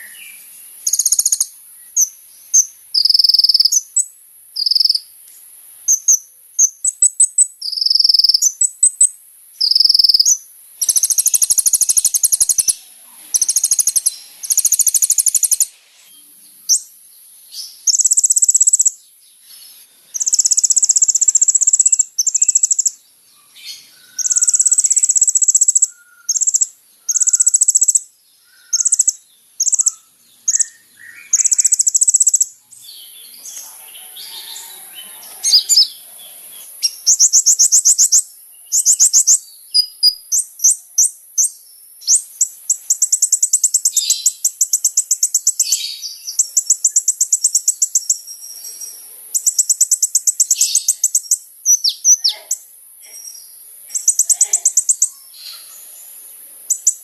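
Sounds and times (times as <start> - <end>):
bird singing high fast trills: 0.0 - 5.1, 5.9 - 15.7, 17.7 - 19.0, 20.2 - 23.0, 23.8 - 33.3, 34.0 - 48.5, 49.4 - 52.6, 54.0 - 57.0
faint high hiss: 0.0 - 57.0.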